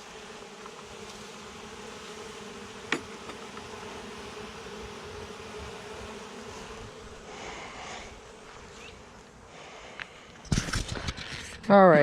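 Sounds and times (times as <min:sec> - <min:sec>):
bees buzzing: 0:00.0 - 0:10.5.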